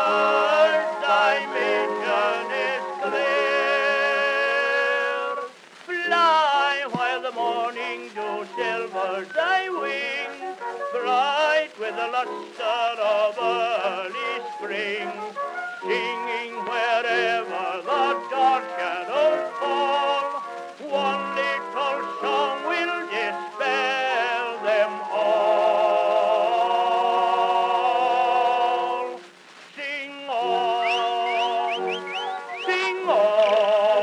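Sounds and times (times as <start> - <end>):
male vocal duet singing: 0.0 - 34.0.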